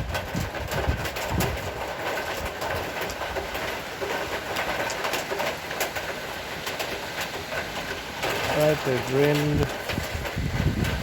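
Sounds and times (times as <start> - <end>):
raindrops spattering: 0.0 - 11.0
heavy rain hissing: 1.8 - 11.0.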